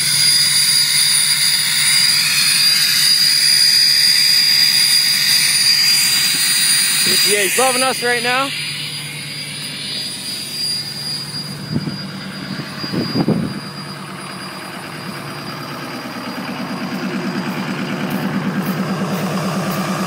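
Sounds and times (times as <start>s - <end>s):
diesel engine idling: 0.0s - 20.0s
high turbo whistle: 0.0s - 20.0s.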